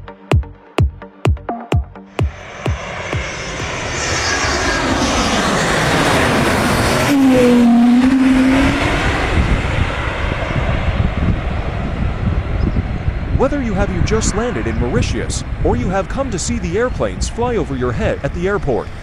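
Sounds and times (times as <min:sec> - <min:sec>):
jet airliner passing overhead: 0:02.1 - 0:19.0.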